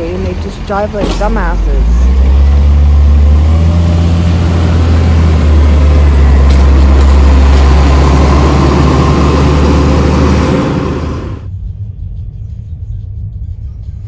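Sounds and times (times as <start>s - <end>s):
vehicle engine idling: 0.0s - 11.5s.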